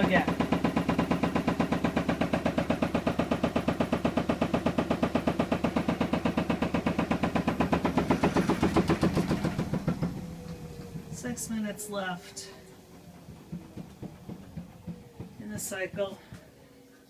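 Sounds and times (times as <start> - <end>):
washing machine banging: 0.0 - 16.5.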